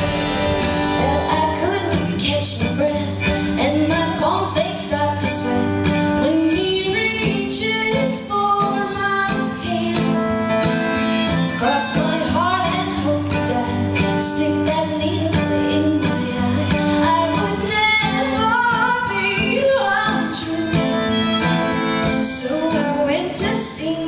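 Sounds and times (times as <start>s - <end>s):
strummed acoustic guitar: 0.0s - 24.0s
woman singing: 0.8s - 24.0s.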